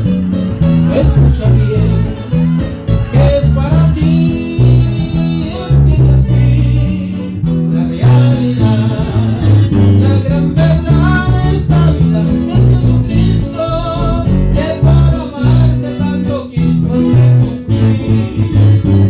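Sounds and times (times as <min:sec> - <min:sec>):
guitars with bass line: 0:00.0 - 0:19.0
voices singing: 0:00.6 - 0:19.0.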